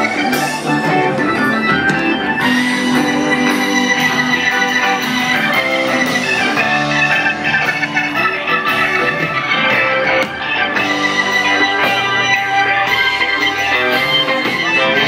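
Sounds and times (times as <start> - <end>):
live band playing rock ballad: 0.0 - 15.0.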